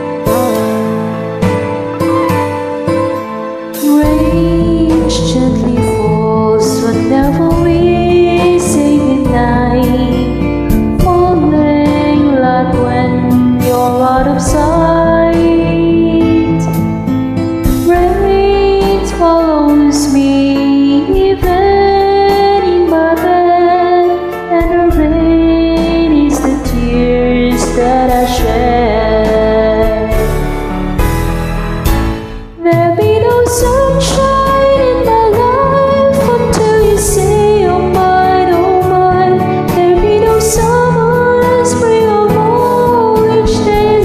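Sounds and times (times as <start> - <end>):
bass and instrumental backing: 0.0 - 44.0
woman singing: 3.8 - 17.0, 17.7 - 30.5, 32.6 - 44.0.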